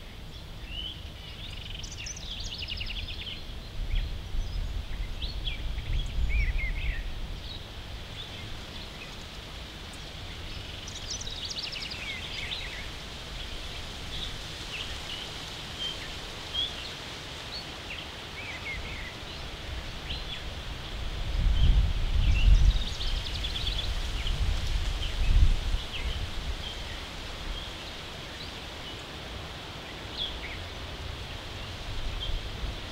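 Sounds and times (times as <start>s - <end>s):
songbirds chirping and trilling: 0.0s - 32.9s
wind rumble on microphone: 0.3s - 16.0s, 18.7s - 28.6s, 30.2s - 32.9s.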